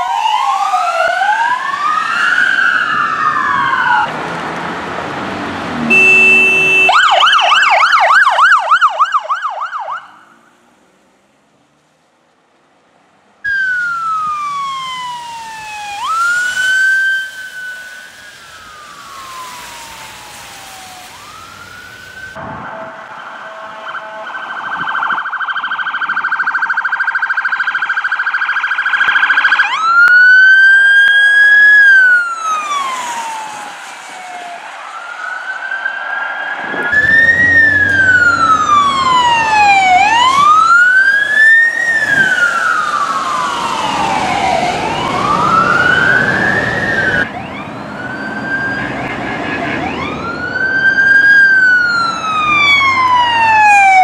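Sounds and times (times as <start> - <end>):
police sirens wailing: 0.0 - 10.7, 13.4 - 54.0.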